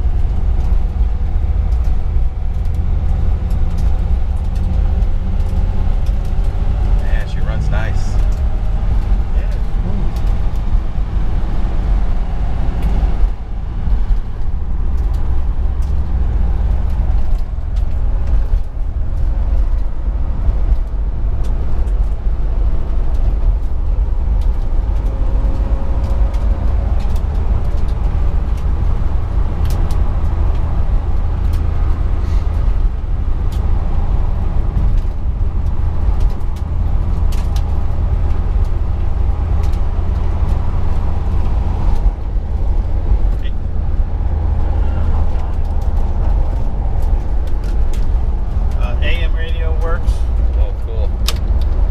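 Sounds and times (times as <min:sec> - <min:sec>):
road and tyre rumble: 0:00.0 - 0:51.9
light clicks and rattles: 0:00.1 - 0:10.8, 0:12.7 - 0:32.9, 0:34.7 - 0:43.5, 0:44.5 - 0:51.8.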